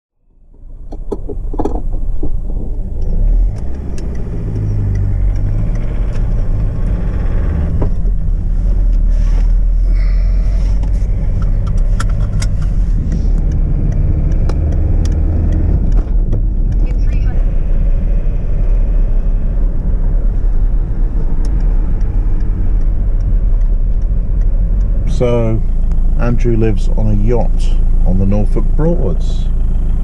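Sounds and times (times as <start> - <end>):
car engine and road noise: 0.1 - 30.0.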